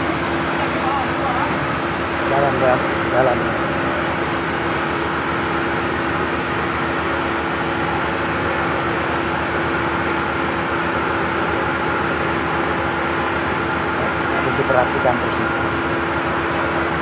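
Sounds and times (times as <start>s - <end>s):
air pump humming: 0.0s - 17.0s.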